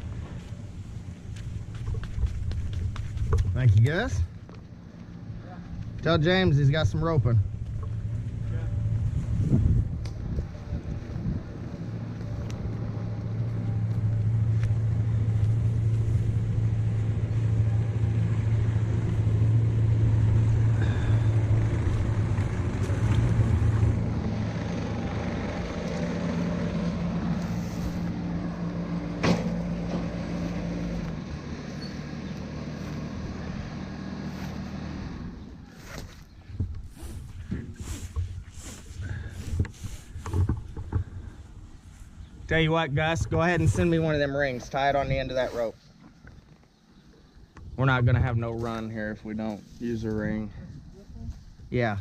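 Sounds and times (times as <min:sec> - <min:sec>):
engine running: 0:00.0 - 0:45.3.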